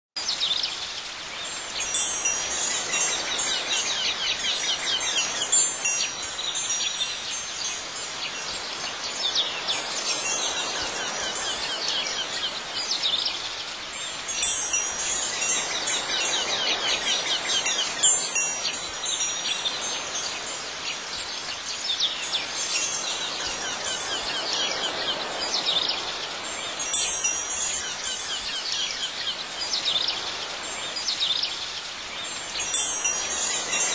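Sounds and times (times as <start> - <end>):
wind chimes tinkling: 1.4 - 33.9.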